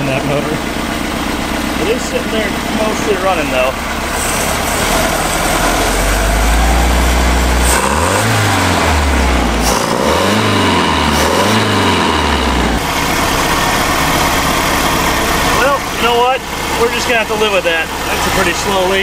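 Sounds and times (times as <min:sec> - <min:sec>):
boat motor revving and idling: 0:00.0 - 0:19.0.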